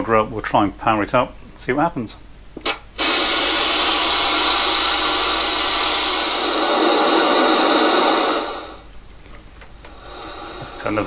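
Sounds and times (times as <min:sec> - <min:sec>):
tv speaker static hiss: 0:00.0 - 0:11.0.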